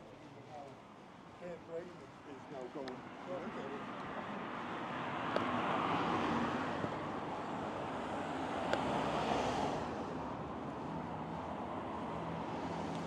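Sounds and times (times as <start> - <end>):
cars passing on road: 0.0 - 13.0.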